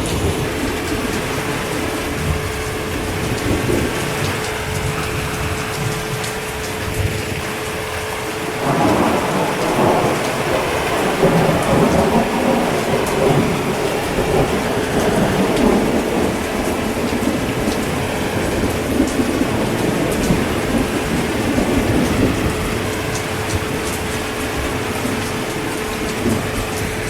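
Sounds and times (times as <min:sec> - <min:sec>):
heavy rain: 0:00.0 - 0:27.0
thunder rolling: 0:00.0 - 0:27.0.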